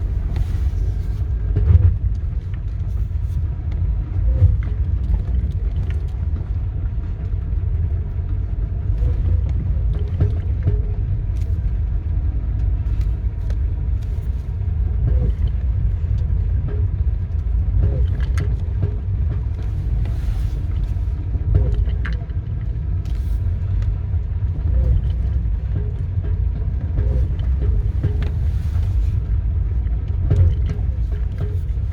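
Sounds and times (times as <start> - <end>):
car driving low rumble: 0.0 - 31.9.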